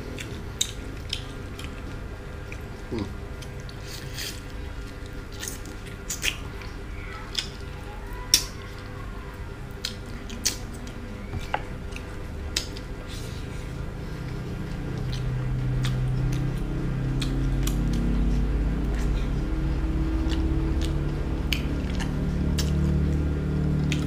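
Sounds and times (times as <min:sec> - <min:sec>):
man chewing food: 0:00.0 - 0:24.0.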